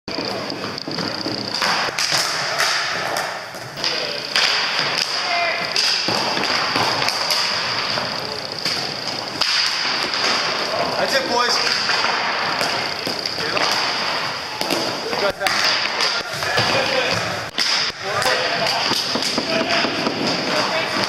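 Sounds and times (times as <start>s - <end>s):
hockey sticks knocking: 0.1s - 21.0s
players calling out: 3.8s - 21.0s.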